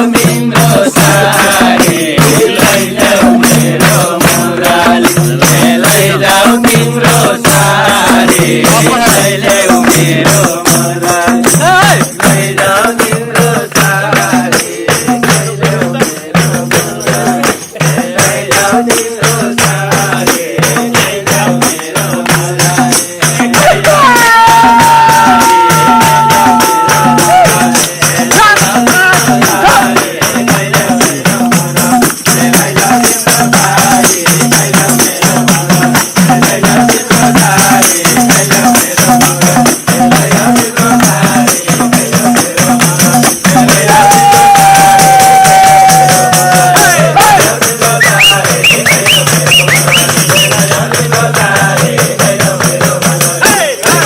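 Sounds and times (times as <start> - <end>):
fast hand percussion: 0.0 - 54.0
jingling tambourine: 0.0 - 54.0.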